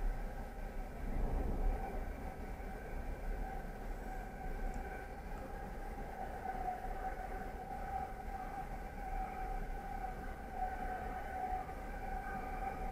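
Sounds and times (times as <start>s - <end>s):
train high whine: 0.0s - 12.9s
train low rumble: 0.0s - 12.9s.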